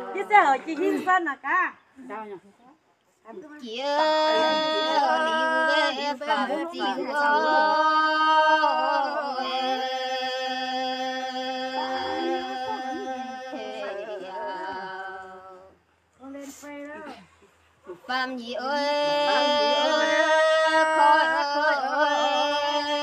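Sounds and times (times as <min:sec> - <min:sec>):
women singing a cappella: 0:00.0 - 0:01.1, 0:03.5 - 0:16.0, 0:17.8 - 0:23.0.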